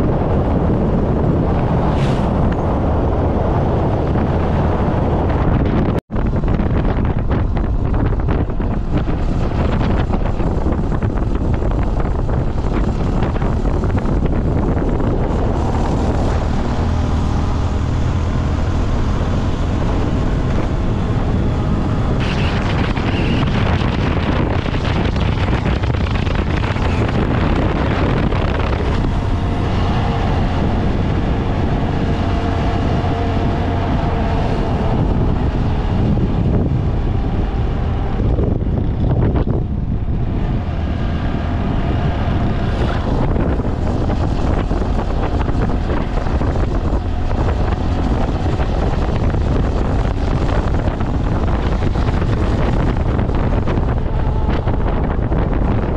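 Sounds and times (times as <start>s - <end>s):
motorcycle engine: 0.0s - 55.9s
road noise: 0.0s - 55.9s
wind buffeting microphone: 0.0s - 55.9s.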